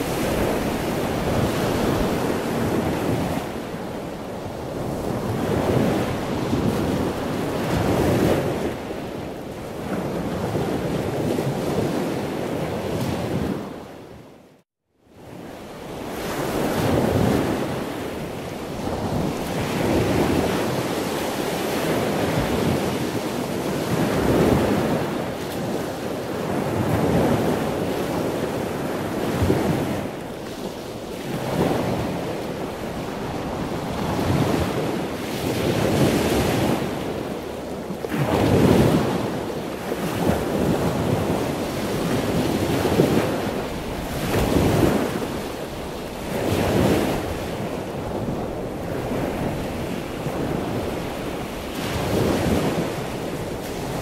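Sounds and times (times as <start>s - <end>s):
wind buffeting microphone: 0.0s - 14.3s, 15.2s - 54.0s
choppy sea water rushing: 0.0s - 14.4s, 15.1s - 54.0s.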